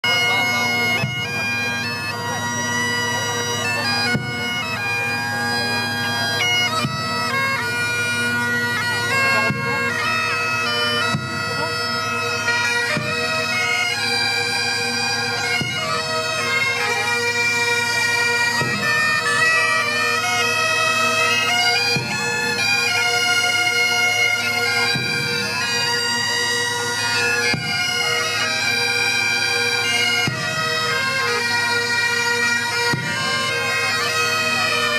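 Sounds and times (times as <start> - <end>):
bagpipes playing a tune: 0.0 - 34.9.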